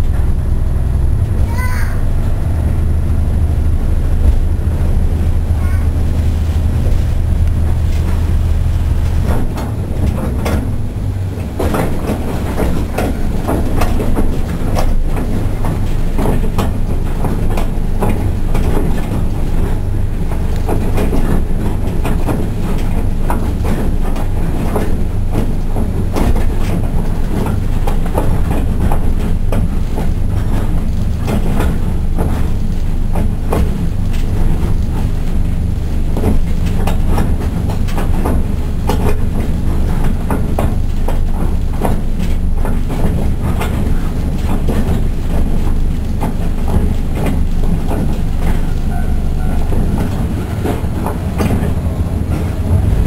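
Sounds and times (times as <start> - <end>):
diesel railcar engine drone: 0.0 - 53.0
steady train rumble: 0.0 - 53.0
wheels clicking over rail joints: 4.3 - 53.0.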